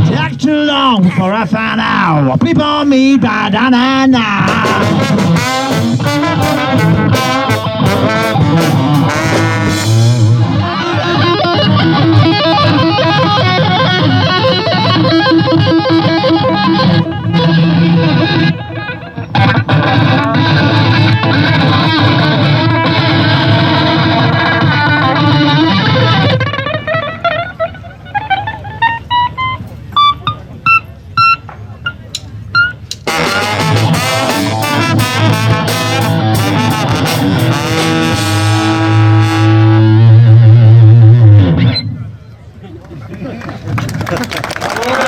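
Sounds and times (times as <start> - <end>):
distorted electric guitar: 4.2 - 42.0
rock band playing: 4.4 - 41.8.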